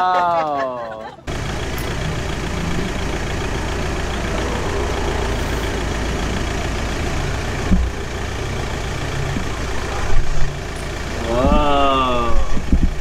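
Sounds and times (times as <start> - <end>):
street traffic noise: 0.0 - 13.0
engine running: 0.3 - 13.0.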